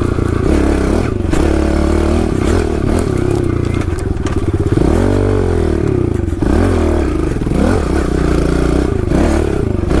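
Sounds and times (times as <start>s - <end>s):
small motorcycle engine revving: 0.0s - 10.0s.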